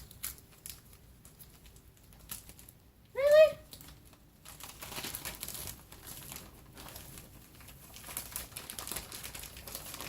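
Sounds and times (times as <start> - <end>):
packaging crinkling: 0.0 - 3.0, 3.6 - 10.0.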